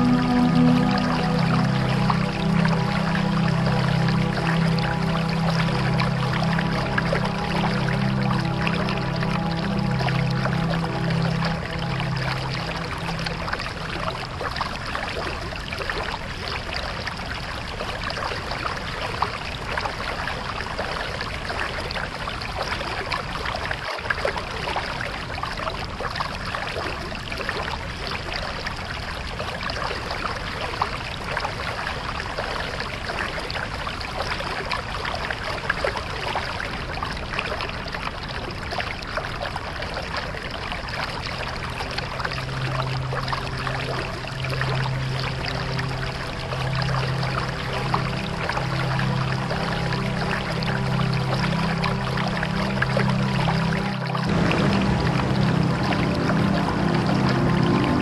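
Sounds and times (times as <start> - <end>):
low sustained music tones: 0.0 - 58.0
rushing river water: 0.0 - 58.0.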